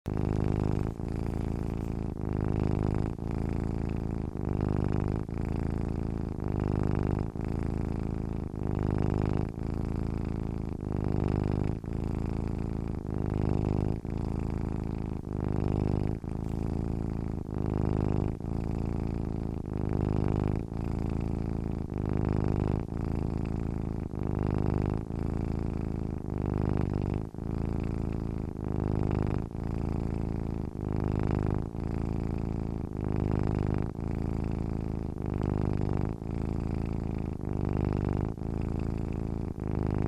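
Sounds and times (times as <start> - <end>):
cat purring: 0.0 - 40.0.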